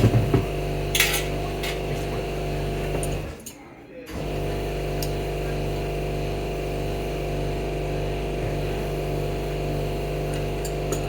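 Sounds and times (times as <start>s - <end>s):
shop machine motor hum: 0.0s - 3.4s, 4.1s - 11.0s.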